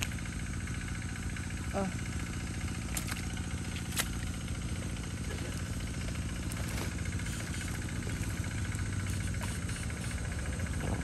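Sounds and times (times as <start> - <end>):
water pump motor running: 0.0 - 11.0.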